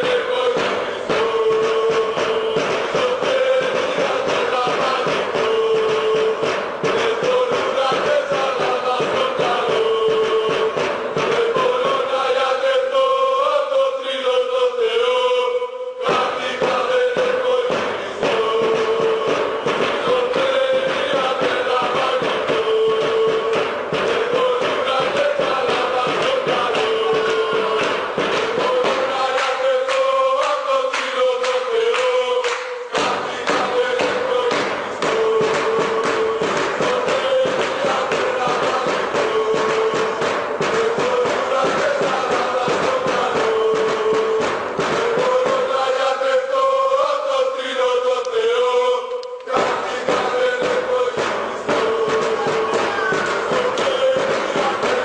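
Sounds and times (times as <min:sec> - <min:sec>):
regular drum beats: 0:00.0 - 0:13.5, 0:16.0 - 0:48.5, 0:49.2 - 0:55.0
crowd chanting in unison: 0:00.0 - 0:55.0.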